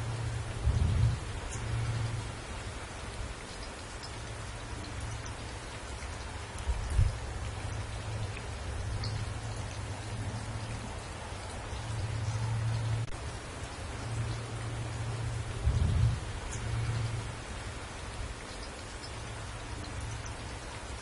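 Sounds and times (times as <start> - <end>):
rain falling on trees: 0.0 - 21.0.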